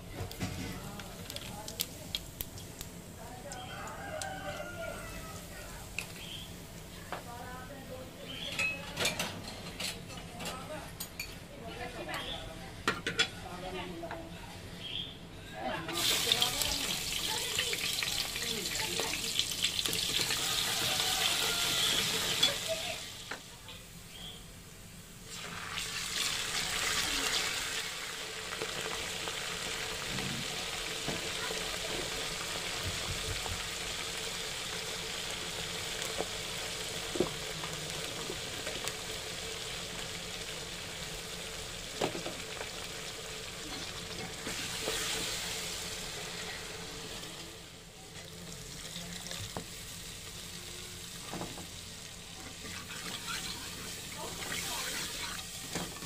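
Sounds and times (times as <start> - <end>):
onions sizzling in oil: 0.0 - 8.5, 15.9 - 56.0.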